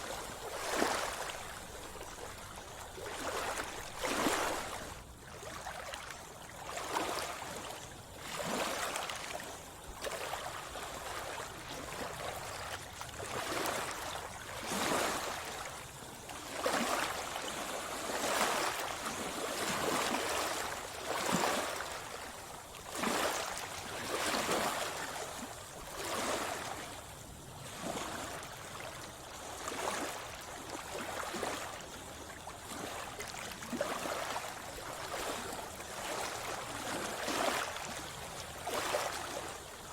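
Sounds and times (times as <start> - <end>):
sea water splashing and sloshing: 0.0 - 39.9.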